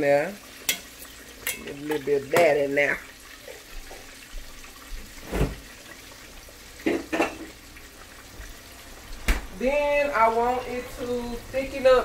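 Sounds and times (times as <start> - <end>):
sauce simmering hiss: 0.1 - 12.0.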